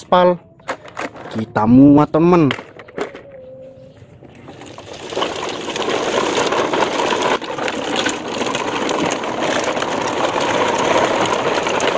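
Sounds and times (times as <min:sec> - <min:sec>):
toy trucks rolling over dirt: 0:00.6 - 0:01.7, 0:02.4 - 0:03.6, 0:04.2 - 0:11.9.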